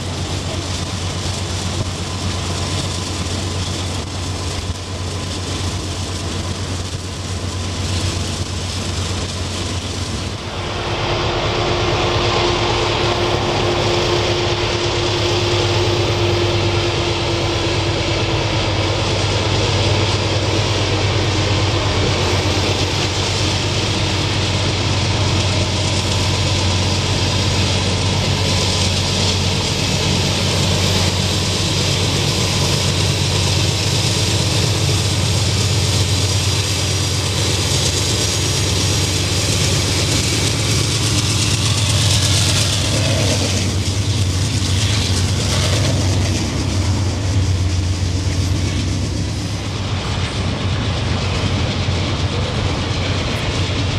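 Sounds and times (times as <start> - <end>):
train wheels clicking over rail joints: 0.0 - 10.6, 11.5 - 53.9
diesel locomotive engines droning: 0.0 - 53.9.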